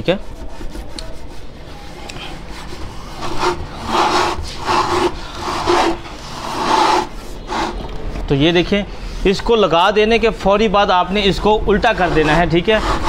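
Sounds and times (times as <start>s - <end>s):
hand rubbing speaker surround: 0.0s - 9.4s, 11.3s - 13.0s.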